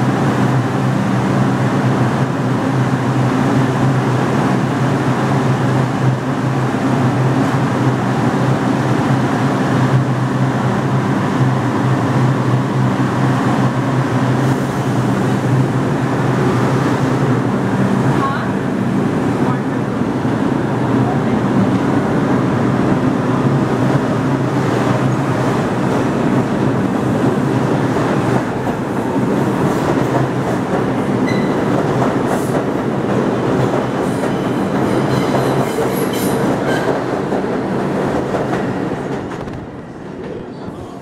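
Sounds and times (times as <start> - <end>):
subway train running on rails: 0.0 - 41.0.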